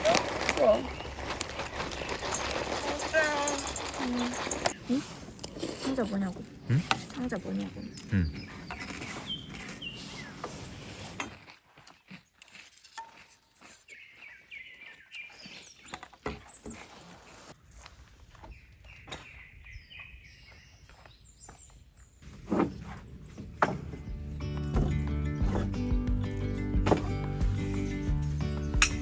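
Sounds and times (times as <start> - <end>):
small birds chirping: 0.0 - 10.8, 11.9 - 17.3, 18.3 - 26.7.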